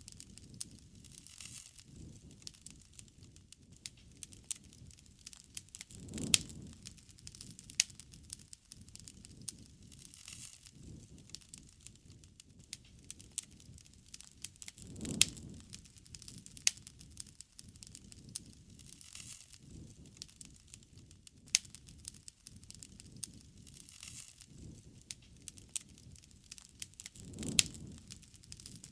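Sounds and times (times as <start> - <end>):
burning wood crackling and popping: 0.0 - 28.9
low rumble of flames: 0.0 - 28.9.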